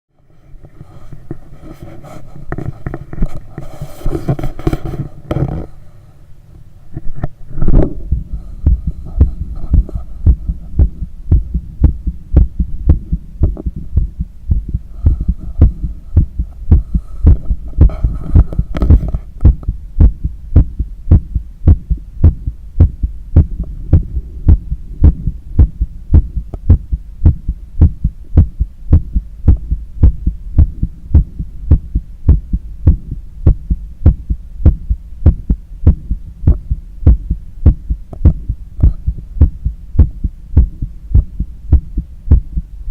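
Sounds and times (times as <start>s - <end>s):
steady low rumble: 5.2s - 42.9s
heartbeat through stethoscope: 7.6s - 42.8s.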